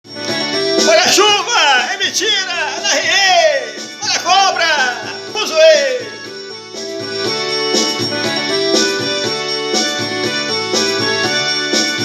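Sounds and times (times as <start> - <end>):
keyboard melody: 0.0 - 12.0
regular beat: 0.2 - 12.0.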